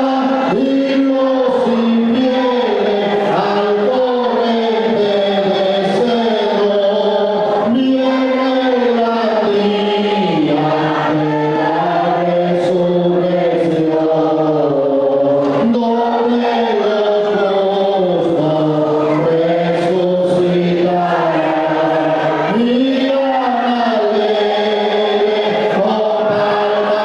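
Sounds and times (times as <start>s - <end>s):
choir singing sustained notes: 0.0s - 27.0s.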